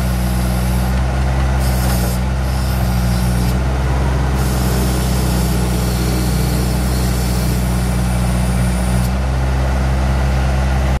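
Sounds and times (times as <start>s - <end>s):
skid steer loader engine running: 0.0s - 11.0s.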